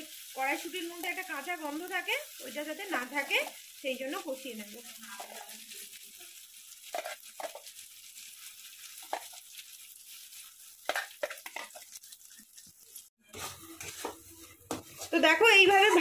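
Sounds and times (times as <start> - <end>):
paste sizzling in oil: 0.0 - 16.0
spatula scraping a wok: 0.1 - 16.0.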